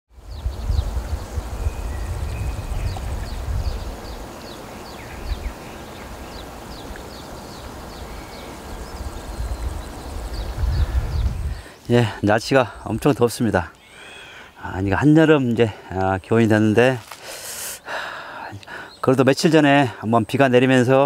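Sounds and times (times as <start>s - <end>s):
small birds chirping: 0.1s - 21.0s.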